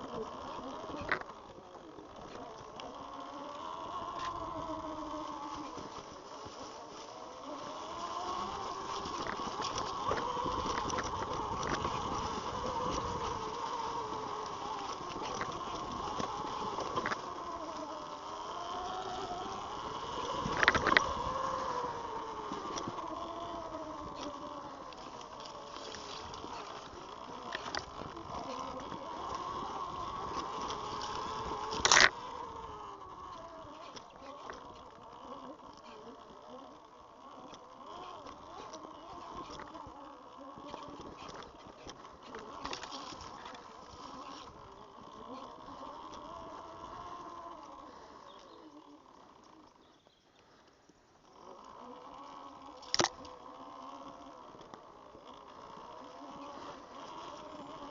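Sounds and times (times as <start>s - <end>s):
electric motor whining: 0.0s - 50.0s, 51.2s - 57.9s.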